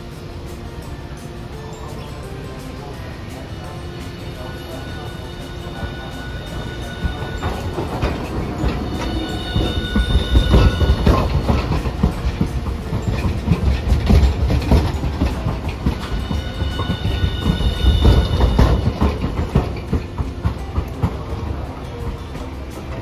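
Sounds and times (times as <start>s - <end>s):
tram low rumble: 0.0s - 23.0s
tram wheels knocking over rail joints: 0.0s - 23.0s.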